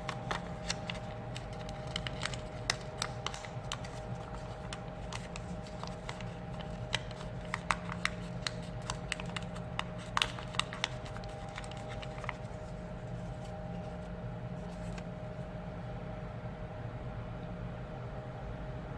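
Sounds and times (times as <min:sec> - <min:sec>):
paper clicks and creasing: 0:00.0 - 0:15.2
low electrical hum: 0:00.0 - 0:18.9.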